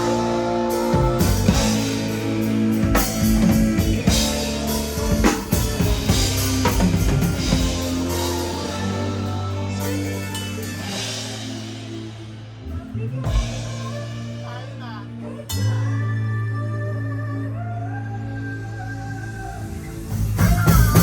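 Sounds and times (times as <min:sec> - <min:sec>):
sustained bass and instrument notes: 0:00.0 - 0:21.0.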